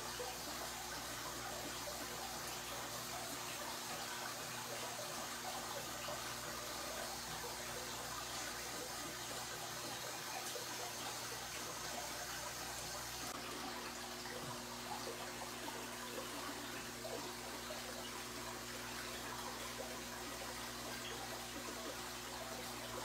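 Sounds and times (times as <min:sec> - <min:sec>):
water bubbling in aquarium: 0:00.0 - 0:23.0.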